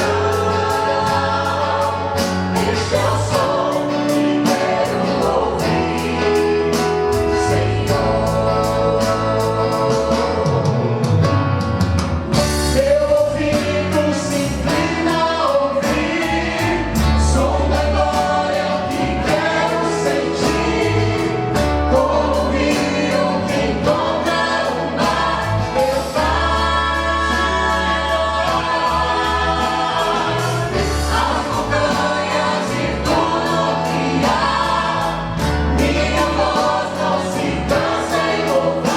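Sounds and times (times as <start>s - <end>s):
vocal group singing in harmony: 0.0s - 11.4s, 12.3s - 38.9s
backing track with bass and beat: 0.0s - 38.9s.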